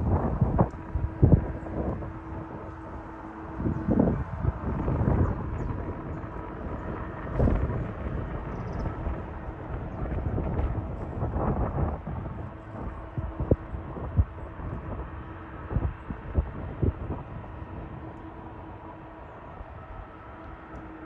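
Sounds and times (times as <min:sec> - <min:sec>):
distant jet engines rumbling: 0:00.0 - 0:21.0
wind buffeting microphone: 0:00.0 - 0:21.0.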